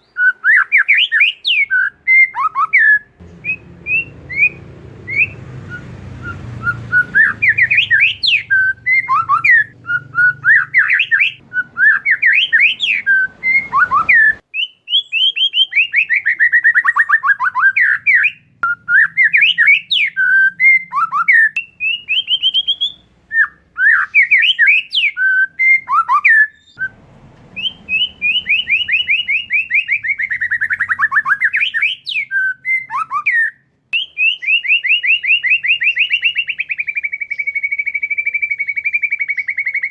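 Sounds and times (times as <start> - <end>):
bird singing with whistles and trills: 0.0 - 39.9.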